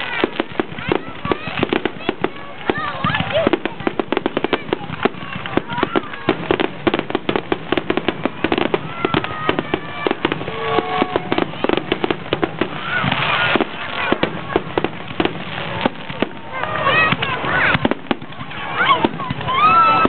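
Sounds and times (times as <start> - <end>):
fireworks crackle: 0.0 - 20.0
fireworks shells bursting: 0.0 - 20.0.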